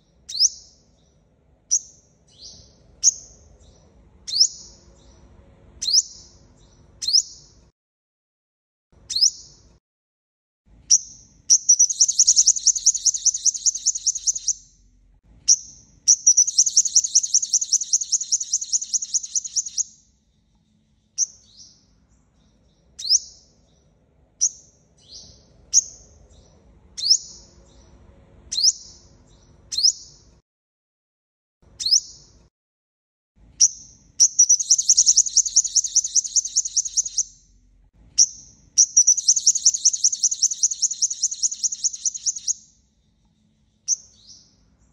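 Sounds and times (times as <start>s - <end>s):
sunbird trilling song: 0.0s - 7.7s, 9.0s - 9.7s, 10.8s - 30.4s, 31.7s - 32.4s, 33.6s - 44.9s.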